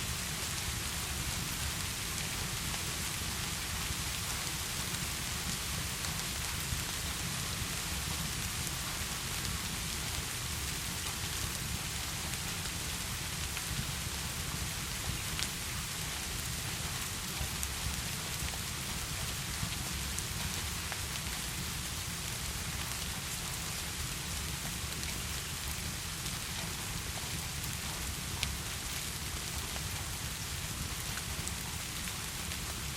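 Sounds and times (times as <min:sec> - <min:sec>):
heavy rain falling: 0:00.2 - 0:32.9.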